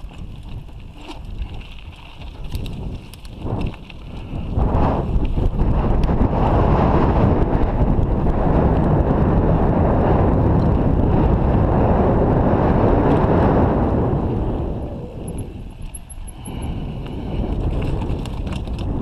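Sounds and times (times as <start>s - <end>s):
bike tyres rumbling on dirt trail: 0.0s - 19.0s
wind buffeting microphone: 0.0s - 19.0s.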